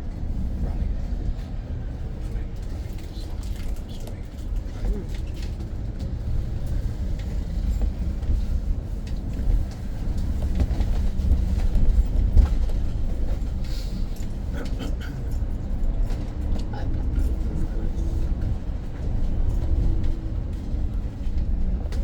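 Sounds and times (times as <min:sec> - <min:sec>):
bus road rumble: 0:00.0 - 0:22.0
rattles and knocks from bus body: 0:00.2 - 0:22.0.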